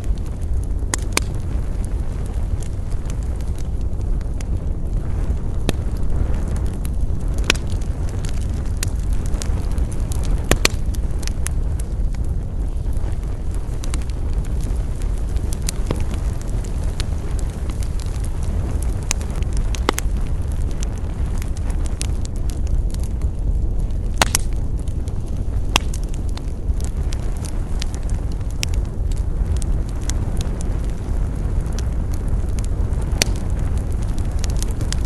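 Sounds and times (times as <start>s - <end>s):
campfire crackling and popping: 0.0s - 35.0s
low fire rumble: 0.0s - 35.0s.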